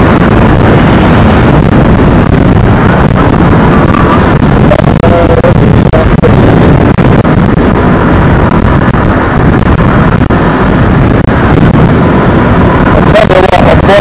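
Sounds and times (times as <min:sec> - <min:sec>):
motorcycle engine: 0:00.0 - 0:14.0
road noise: 0:00.0 - 0:14.0
wind rumble on microphone: 0:00.0 - 0:14.0.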